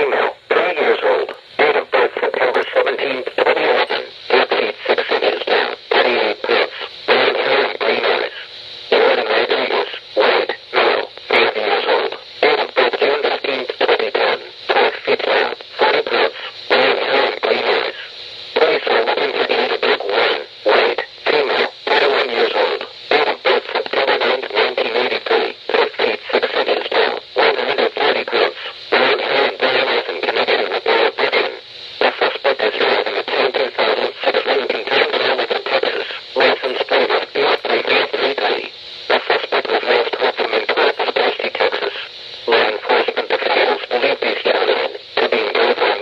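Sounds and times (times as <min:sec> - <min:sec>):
radio static: 0:00.0 - 0:46.0
voice message over radio: 0:00.0 - 0:46.0.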